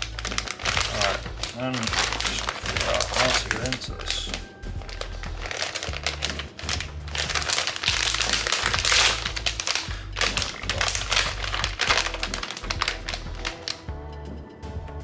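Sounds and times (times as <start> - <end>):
plastic packaging crinkling: 0.0 - 13.9
background music with bass line: 0.0 - 15.0.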